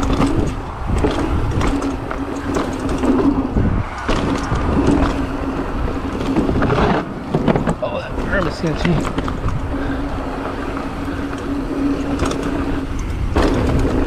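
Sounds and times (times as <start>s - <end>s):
bike knocking and rattling: 0.0s - 14.0s
bike tyres on gravel: 0.0s - 14.0s
steady hum: 0.0s - 14.0s.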